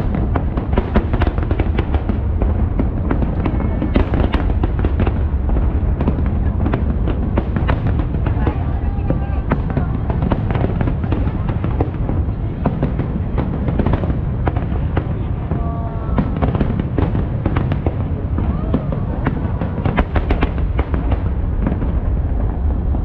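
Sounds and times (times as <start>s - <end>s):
fireworks bangs and crackles: 0.0s - 23.0s
fireworks rumble: 0.0s - 23.0s.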